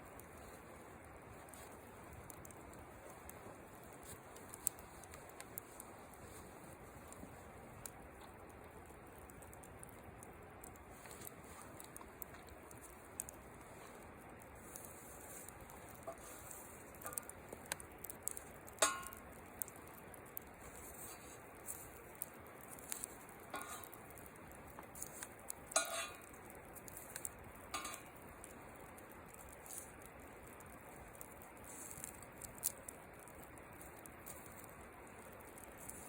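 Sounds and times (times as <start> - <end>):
sharp fire pops: 0.0 - 36.0
wood fire crackling: 0.0 - 36.0.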